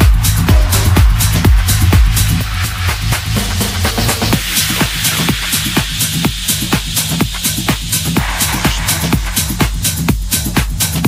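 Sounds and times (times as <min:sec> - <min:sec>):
continuous bass: 0:00.0 - 0:11.0
kick drum: 0:00.0 - 0:11.0
techno music: 0:00.0 - 0:11.0
ticking hi-hats: 0:00.0 - 0:11.0.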